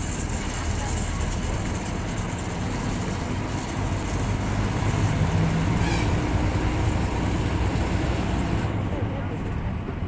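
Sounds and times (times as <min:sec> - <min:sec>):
bus diesel engine running: 0:00.0 - 0:10.0
road noise: 0:00.0 - 0:10.0.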